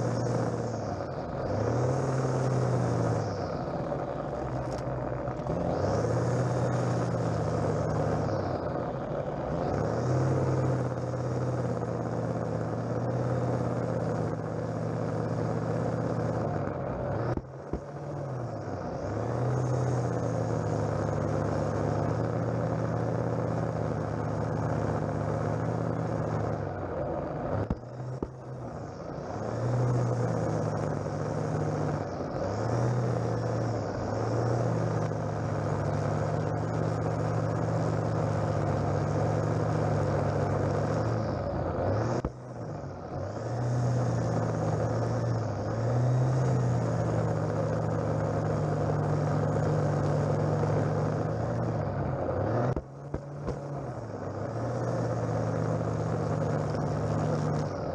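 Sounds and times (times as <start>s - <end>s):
strimmer engine at high throttle: 0.0s - 57.9s.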